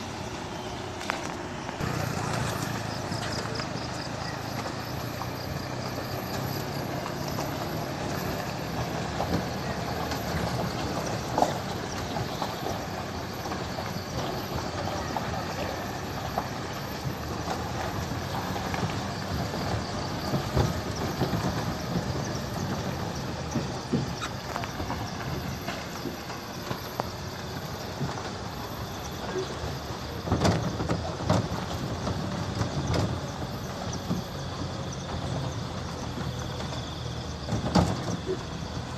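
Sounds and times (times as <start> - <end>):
knocks and rattles over potholes: 0.0 - 38.9
vehicle engine and road noise: 0.0 - 38.9.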